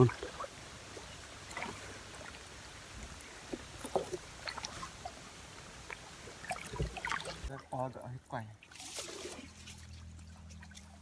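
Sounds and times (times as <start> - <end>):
small water splashes: 0.0 - 11.0
water sloshing from wading: 0.0 - 11.0.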